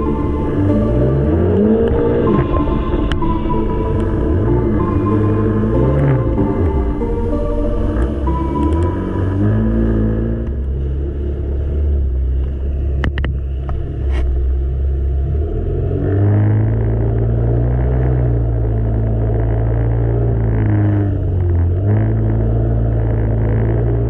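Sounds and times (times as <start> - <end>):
jet ski engine rumbling: 0.0 - 24.0.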